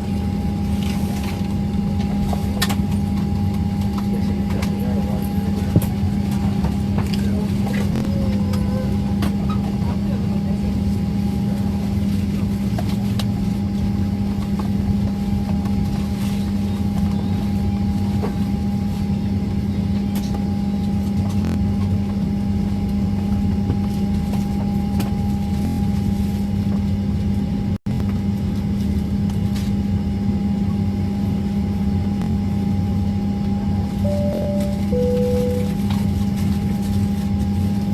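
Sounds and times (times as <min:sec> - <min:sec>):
airliner cabin engine drone: 0:00.0 - 0:37.9.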